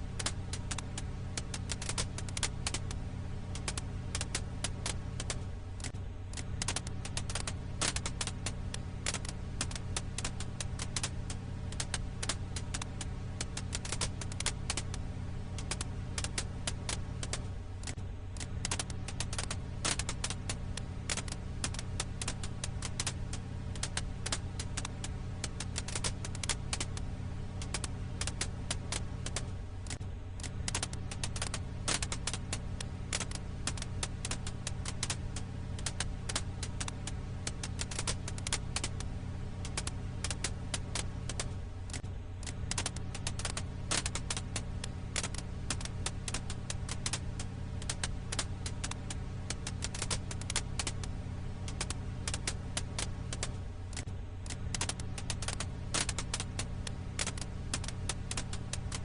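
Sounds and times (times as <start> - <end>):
firewood crackling: 0.0 - 59.0.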